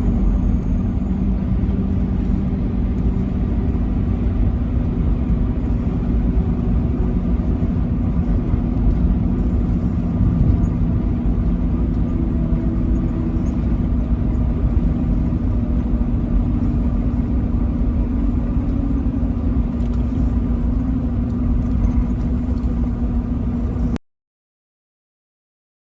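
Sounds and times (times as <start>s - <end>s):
constant low hum: 0.0s - 24.0s
road noise: 0.0s - 24.0s
vehicle engine drone: 0.0s - 24.0s.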